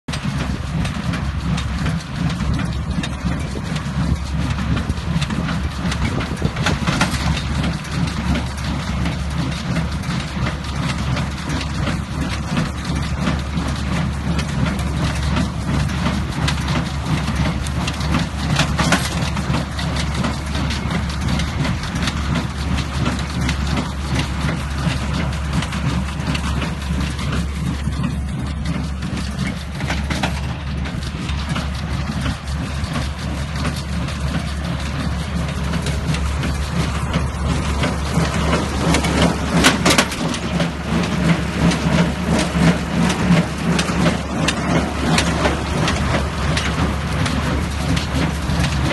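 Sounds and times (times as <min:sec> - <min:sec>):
tractor engine running: 0:00.0 - 0:48.9
baler clatter: 0:00.1 - 0:48.9.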